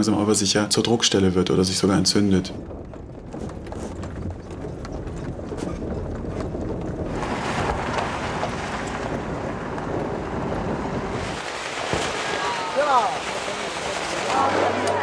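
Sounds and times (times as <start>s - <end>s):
bus road rumble: 1.5s - 15.0s.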